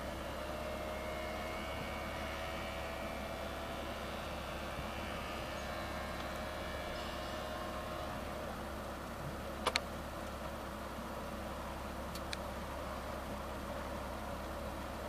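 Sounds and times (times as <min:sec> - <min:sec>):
convertible top motor whine: 0:00.0 - 0:15.0.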